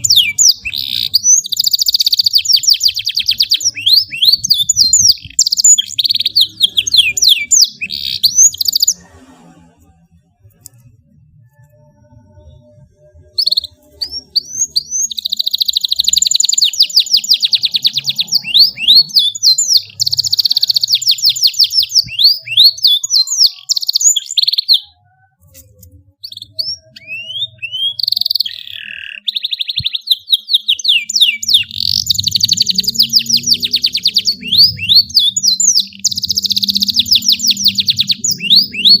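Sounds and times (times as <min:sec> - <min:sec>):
canary singing trills: 0:00.0 - 0:09.3, 0:10.7 - 0:39.0.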